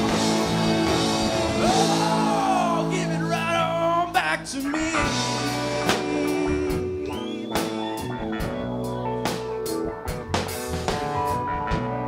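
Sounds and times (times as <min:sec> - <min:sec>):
bass guitar: 0:00.0 - 0:12.0
drums: 0:00.0 - 0:12.0
electric guitars: 0:00.0 - 0:12.0
keyboards: 0:00.0 - 0:12.0.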